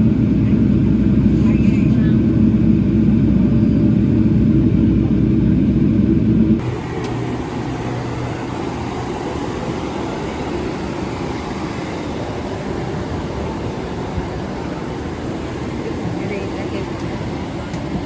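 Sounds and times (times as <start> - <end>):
steady hum: 0.0 - 18.0
vehicle rumble: 0.0 - 18.0.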